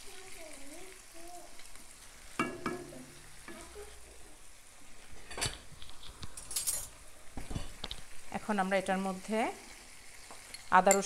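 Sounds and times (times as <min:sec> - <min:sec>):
prawns and onions sizzling in oil: 0:00.0 - 0:11.0.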